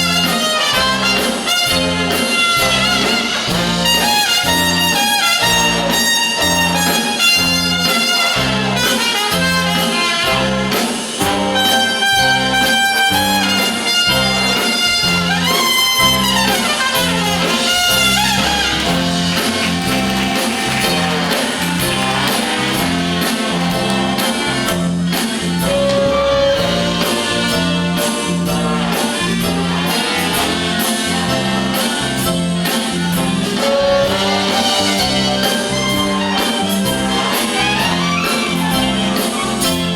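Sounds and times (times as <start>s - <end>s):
brass band playing jazz blues: 0.0s - 39.9s.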